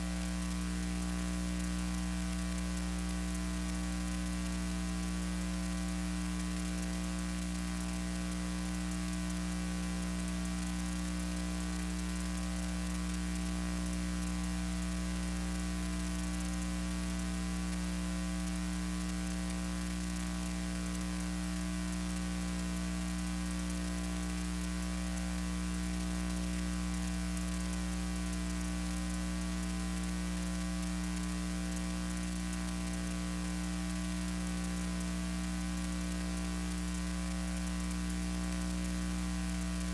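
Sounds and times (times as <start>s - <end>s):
electrical mains hum with hiss: 0.0s - 39.9s.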